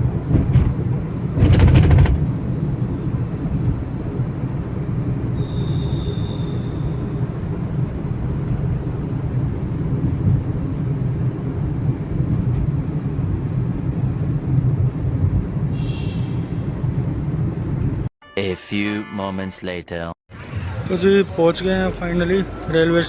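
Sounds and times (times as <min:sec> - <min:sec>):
vehicle engine and road noise: 0:00.0 - 0:18.1, 0:20.3 - 0:23.0.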